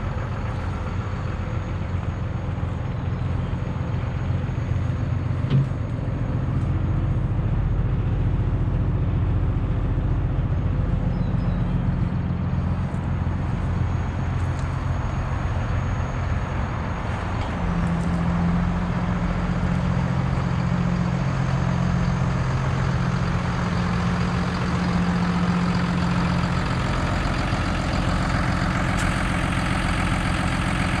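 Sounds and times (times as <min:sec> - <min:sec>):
truck diesel engine idling: 0:00.0 - 0:31.0.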